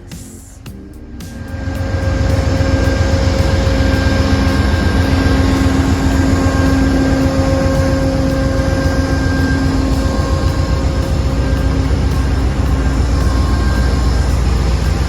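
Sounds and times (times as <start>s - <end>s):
diesel locomotive engine idling: 1.4s - 15.0s.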